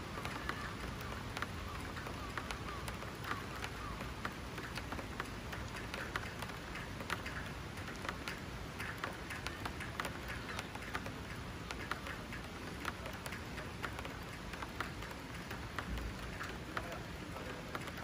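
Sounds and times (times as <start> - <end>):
raindrops ticking on hard surface: 0.0 - 18.0
steady rain falling: 0.0 - 18.0.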